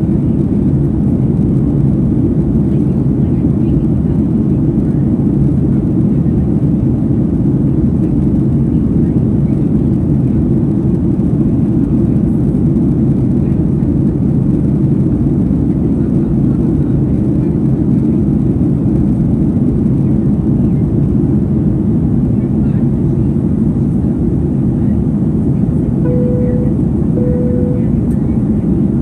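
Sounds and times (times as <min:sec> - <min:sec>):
airplane cabin engine roar: 0:00.0 - 0:29.0.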